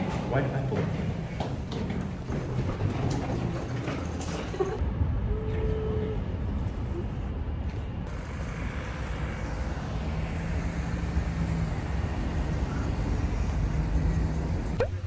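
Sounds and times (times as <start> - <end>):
city traffic rumble: 0.0 - 15.0
faint engine hum: 0.0 - 15.0.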